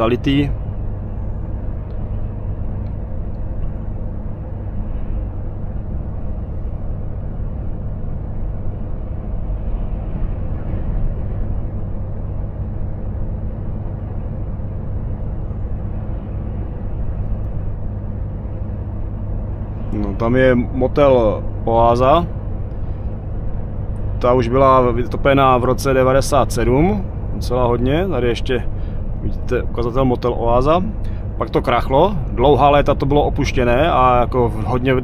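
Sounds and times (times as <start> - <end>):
truck diesel engine running: 0.0 - 35.0
tyre and road noise: 0.0 - 35.0.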